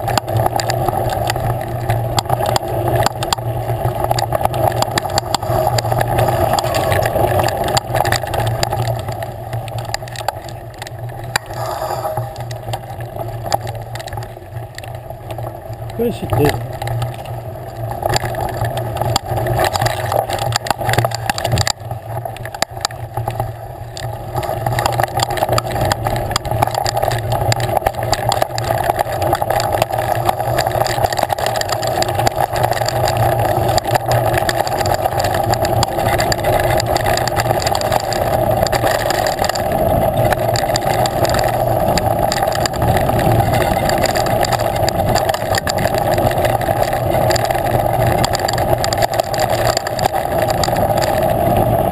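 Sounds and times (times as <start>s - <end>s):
bike rattles and knocks: 0.0s - 11.6s, 16.4s - 51.9s.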